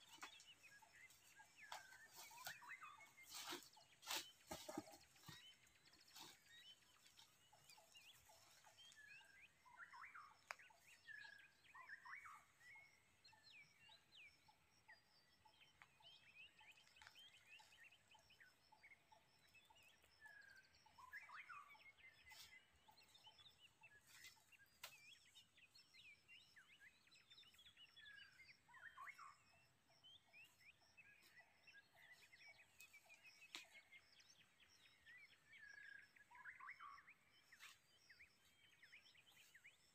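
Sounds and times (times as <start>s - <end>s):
faint birds chirping and whistling: 0.0s - 39.9s.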